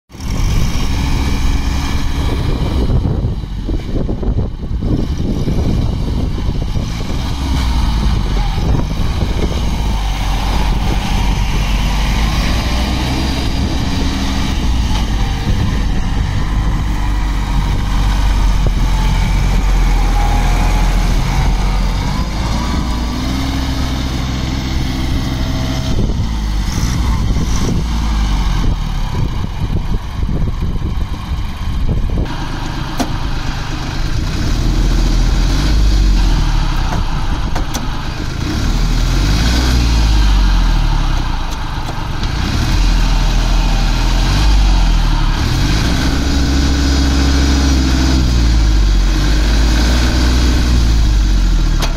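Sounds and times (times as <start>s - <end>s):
tractor diesel engine running: 0.1s - 51.9s.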